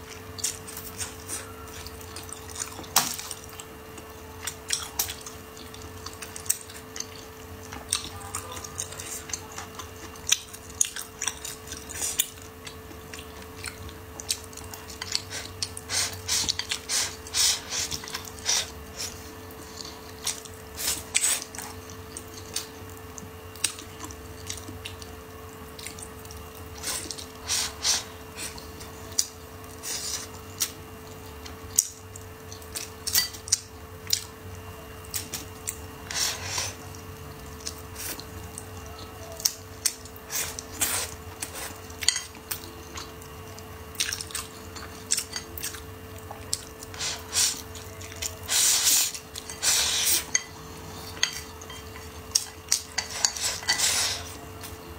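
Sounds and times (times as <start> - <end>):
faint steady hum: 0.0 - 54.9
wet chewing and slurping: 0.1 - 34.4, 35.0 - 54.8.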